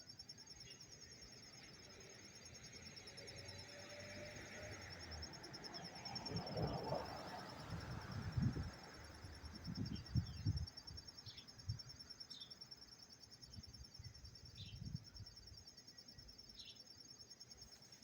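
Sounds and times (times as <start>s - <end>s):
cricket trilling: 0.0s - 18.0s.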